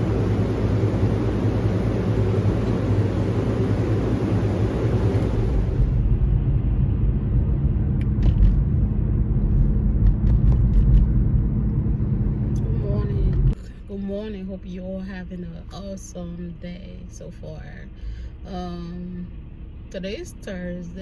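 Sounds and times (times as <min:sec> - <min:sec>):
car rumble from inside cabin: 0:00.0 - 0:21.0.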